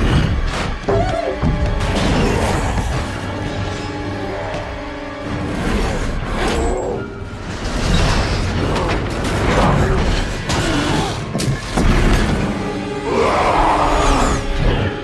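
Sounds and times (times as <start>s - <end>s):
film music score: 0.0s - 15.0s.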